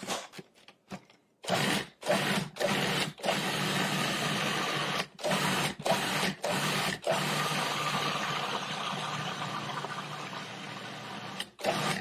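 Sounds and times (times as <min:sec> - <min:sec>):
food processor motor pulsing: 0:01.4 - 0:12.0.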